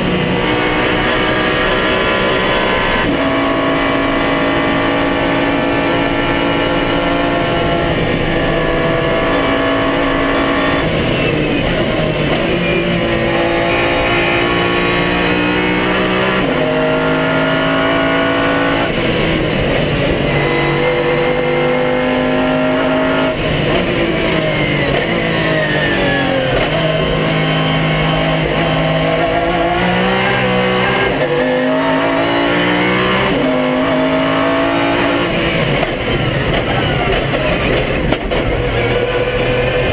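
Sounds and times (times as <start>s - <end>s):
race car engine revving and shifting: 0.0s - 39.9s.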